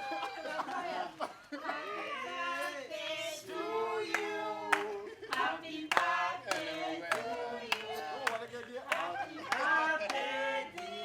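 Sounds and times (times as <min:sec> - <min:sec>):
group singing: 0:00.1 - 0:11.0.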